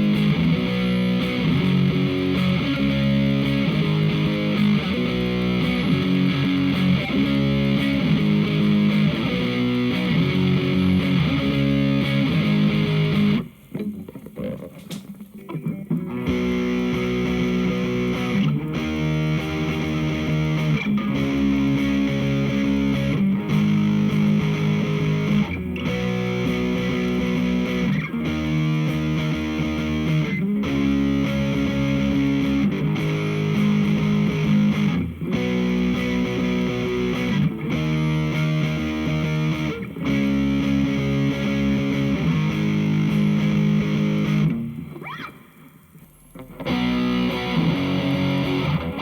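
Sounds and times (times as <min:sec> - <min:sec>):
distorted electric guitar chords: 0:00.0 - 0:49.0.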